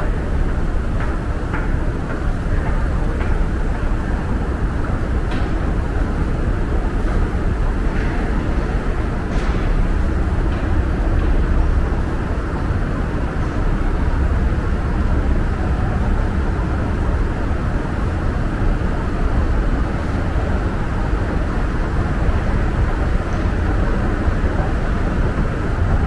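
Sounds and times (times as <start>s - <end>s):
subway station low rumble: 0.0s - 26.0s.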